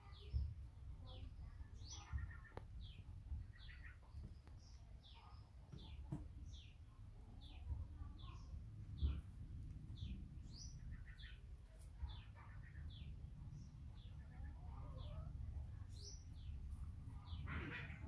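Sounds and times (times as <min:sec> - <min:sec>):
faint low rumble: 0:00.0 - 0:18.0
songbird chirping: 0:00.0 - 0:18.0.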